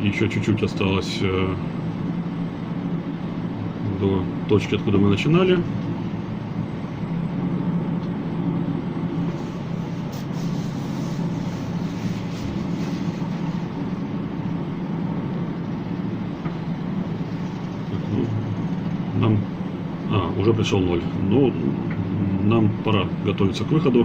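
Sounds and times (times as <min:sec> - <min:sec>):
ferris wheel mechanical hum: 0:00.0 - 0:24.0.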